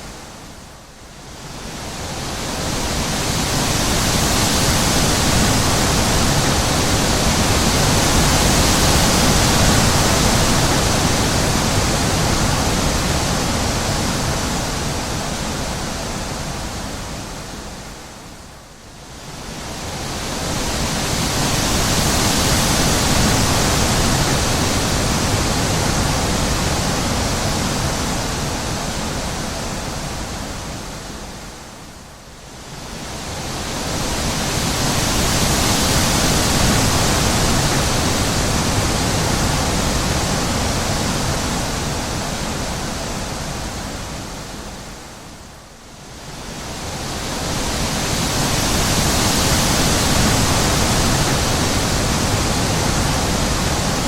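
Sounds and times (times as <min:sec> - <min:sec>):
wind gusts: 0:00.0 - 0:54.0.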